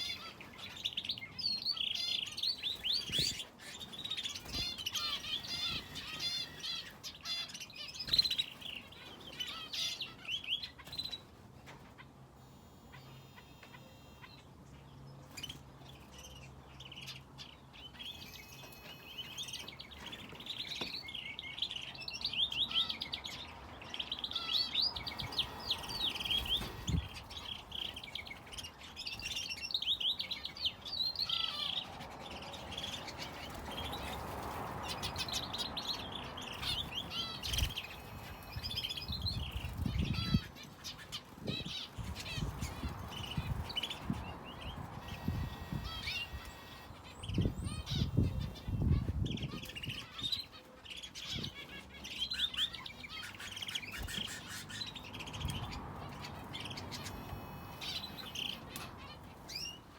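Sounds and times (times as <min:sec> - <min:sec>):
caged birds chirping and twittering: 0:00.0 - 0:59.9.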